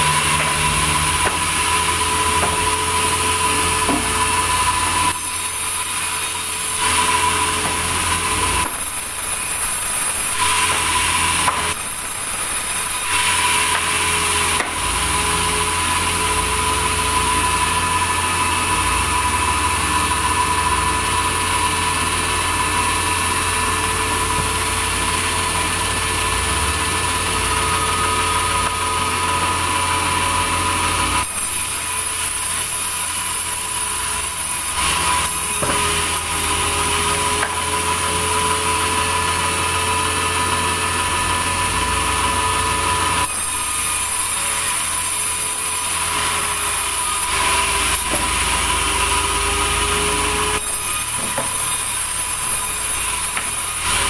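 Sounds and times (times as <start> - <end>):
band saw cutting timber: 0.0 - 54.0.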